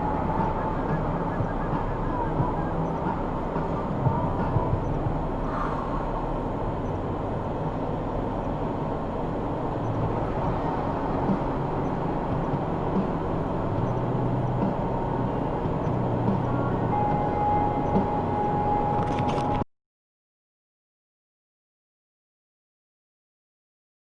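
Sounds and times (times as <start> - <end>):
road rumble: 0.0 - 19.7
vehicle engine hum: 0.0 - 19.7.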